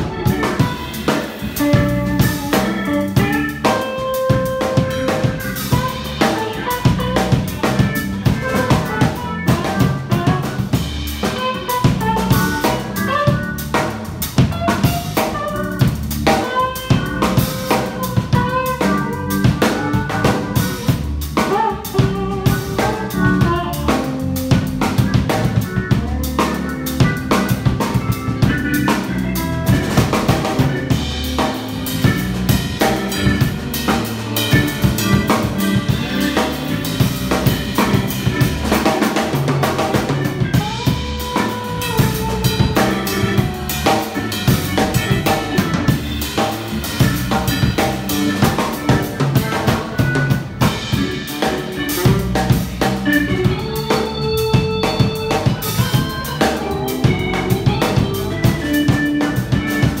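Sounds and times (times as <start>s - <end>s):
drum kit beat: 0.0s - 60.0s
electric bass line: 0.0s - 60.0s
pedal steel guitar melody: 0.0s - 60.0s.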